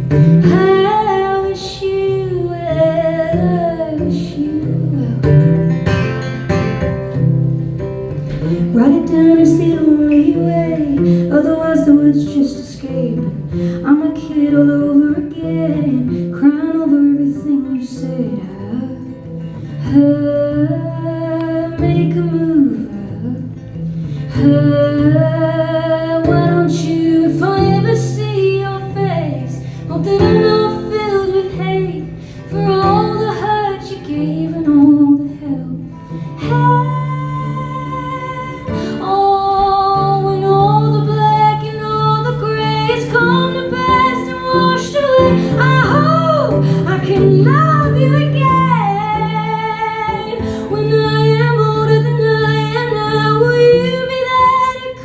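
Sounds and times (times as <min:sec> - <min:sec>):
woman singing: 0:00.0 - 0:07.3, 0:08.1 - 0:55.0
guitar chords: 0:00.0 - 0:55.0.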